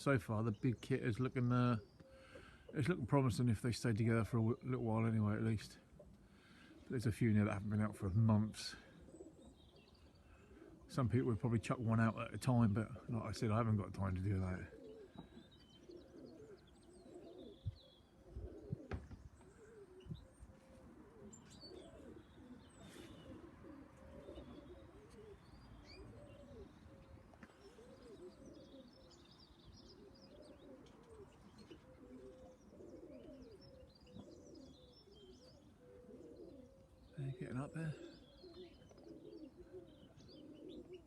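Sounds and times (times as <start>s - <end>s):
pigeons cooing: 0.0s - 41.0s
small birds chirping: 0.0s - 41.0s.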